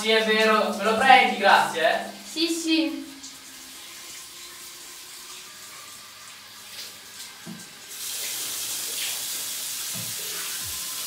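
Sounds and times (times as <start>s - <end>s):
shower water running: 0.0s - 11.0s.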